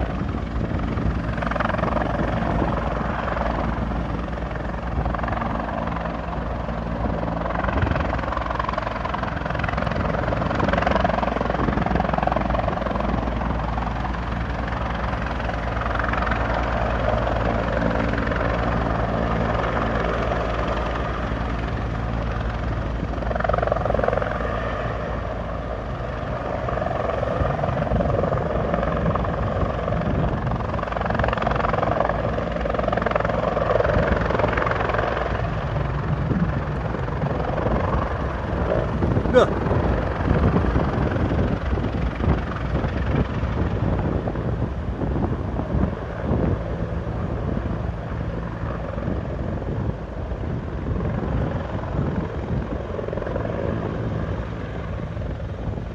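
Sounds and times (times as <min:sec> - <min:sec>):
helicopter rotor and engine: 0:00.0 - 0:55.9.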